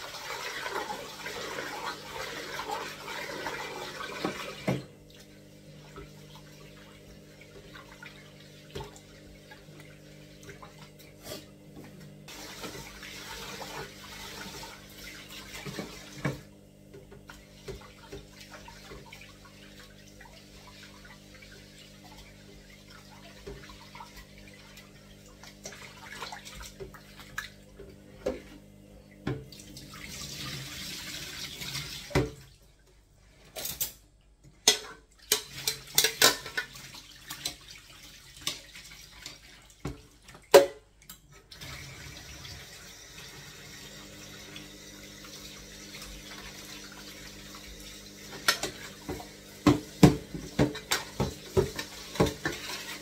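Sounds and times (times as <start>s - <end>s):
tap water running into sink: 0.0s - 11.1s, 12.1s - 28.6s, 29.2s - 32.6s, 34.6s - 53.0s.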